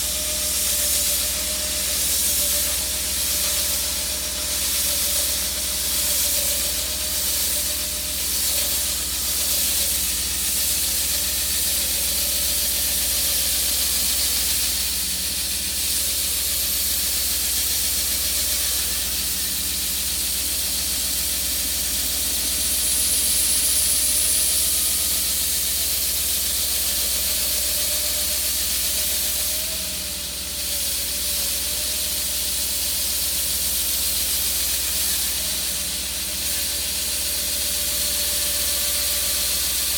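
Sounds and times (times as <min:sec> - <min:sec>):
concrete saw blade hissing: 0:00.0 - 0:39.9.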